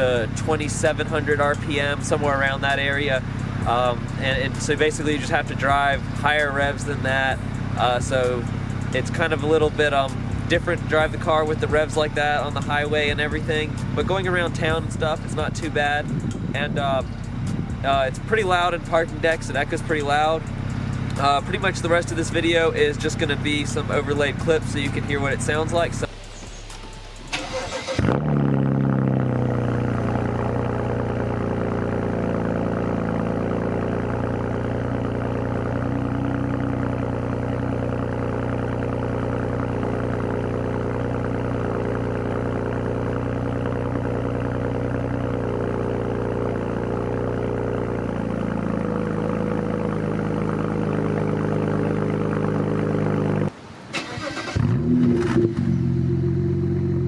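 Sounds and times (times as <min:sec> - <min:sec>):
loud car exhaust note: 0:00.0 - 0:53.6, 0:54.3 - 0:57.0.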